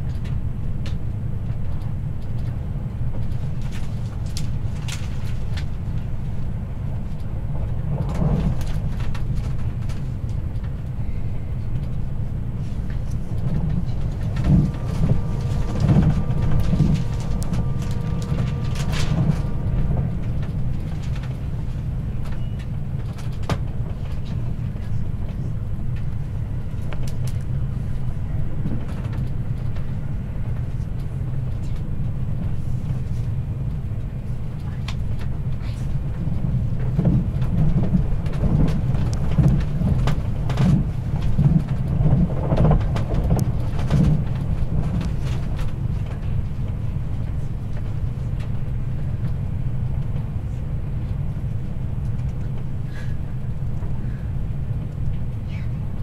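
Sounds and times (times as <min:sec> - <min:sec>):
train rumbling with wheel clicks: 0:00.0 - 0:56.0.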